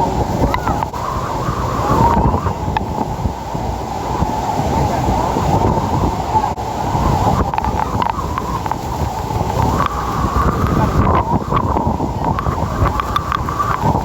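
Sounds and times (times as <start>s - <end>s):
waterfall roaring: 0.0s - 14.0s
wind buffeting microphone: 0.0s - 14.0s.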